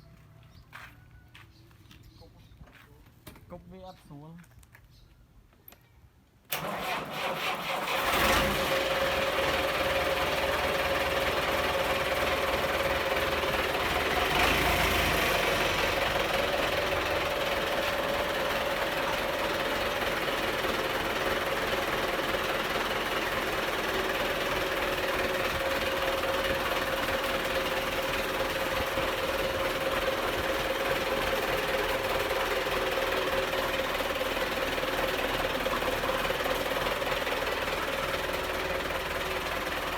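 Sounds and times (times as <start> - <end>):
tractor diesel engine running: 6.5 - 39.9.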